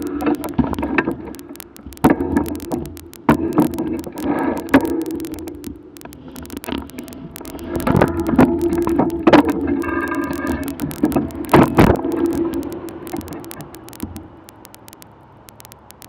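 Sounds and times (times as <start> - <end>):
sharp clicks and knocks: 0.0 - 16.0.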